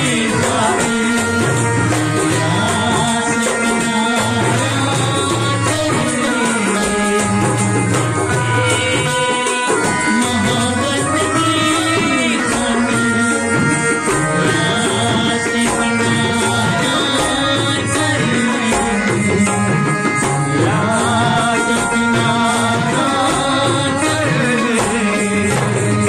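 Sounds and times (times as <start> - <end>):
bulbul tarang melody: 0.0 - 26.0
harmonium: 0.0 - 26.0
man singing: 0.0 - 26.0
tabla and dholak rhythm: 0.0 - 26.0.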